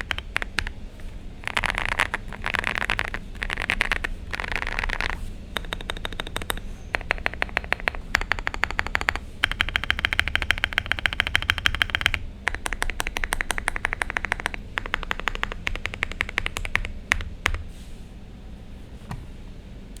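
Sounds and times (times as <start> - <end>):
mechanical keyboard typing: 0.0 - 17.7.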